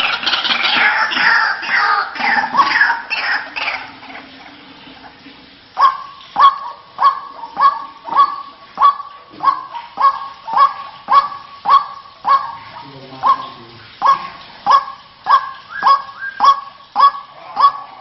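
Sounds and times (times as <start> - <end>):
waterhen calling: 0.0 - 18.0.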